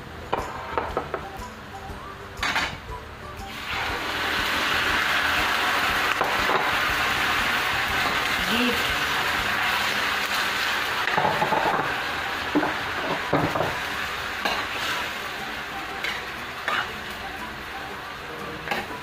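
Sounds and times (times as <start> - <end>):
beef sizzling in a pan: 3.5 - 19.0.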